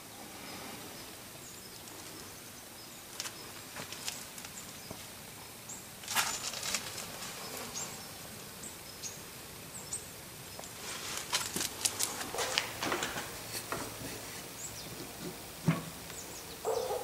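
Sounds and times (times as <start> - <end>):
small birds chirping: 0.0 - 17.0
steady low hiss: 0.0 - 17.0.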